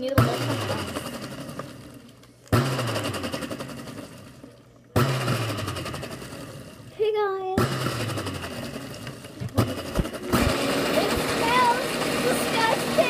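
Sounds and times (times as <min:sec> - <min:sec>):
blender motor bursts: 0:00.1 - 0:04.4, 0:05.0 - 0:06.9, 0:07.6 - 0:13.0.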